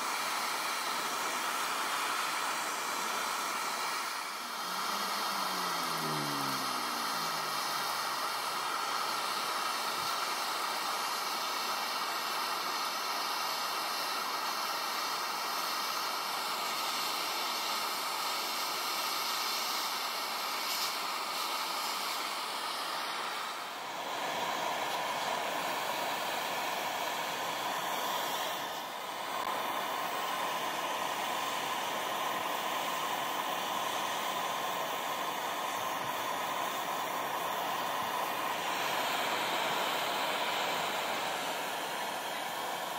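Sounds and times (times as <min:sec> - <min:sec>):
gas torch hissing: 0:00.0 - 0:42.9.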